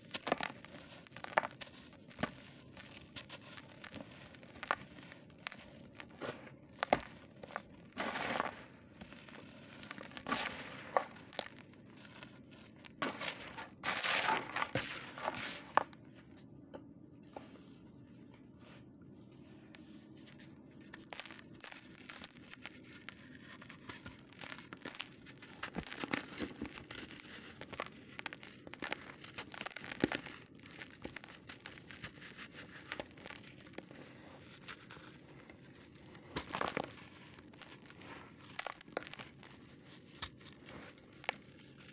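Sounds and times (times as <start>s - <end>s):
hands crumbling dry dirt: 0.0s - 16.0s, 20.2s - 41.9s.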